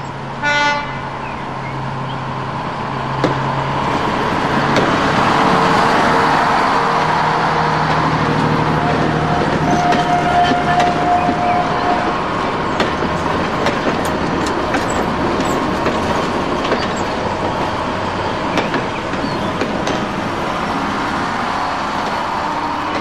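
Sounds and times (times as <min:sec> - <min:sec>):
train rolling on rails: 0:00.0 - 0:23.0.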